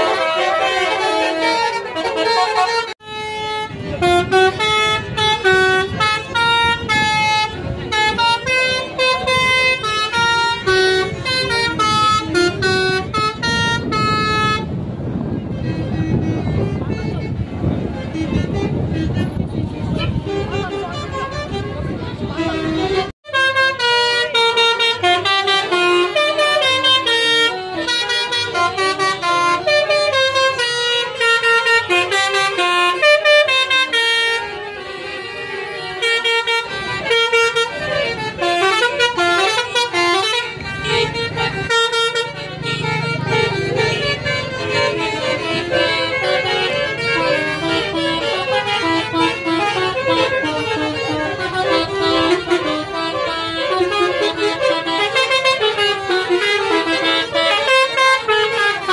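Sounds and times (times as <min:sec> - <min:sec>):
low engine rumble: 0:00.0 - 0:58.9
musical bus horn playing: 0:00.0 - 0:58.9.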